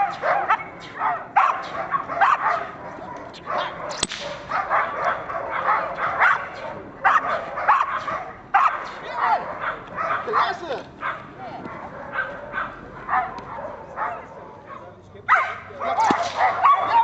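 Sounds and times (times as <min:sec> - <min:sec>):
dog barking: 0:00.0 - 0:17.0.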